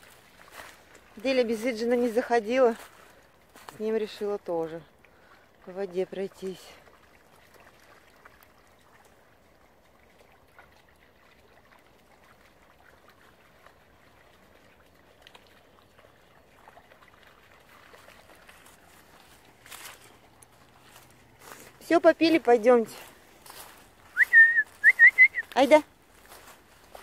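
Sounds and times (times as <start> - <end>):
dog splashing and lapping water: 0.0 - 27.0.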